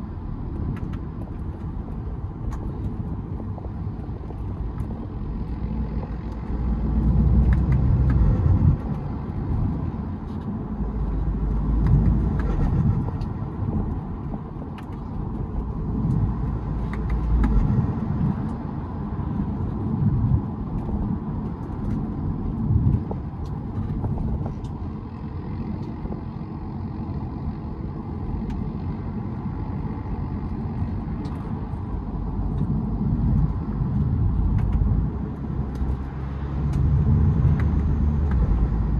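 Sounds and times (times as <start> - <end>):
deep low rumble: 0.0 - 38.9
diesel car engine accelerating: 0.0 - 38.9.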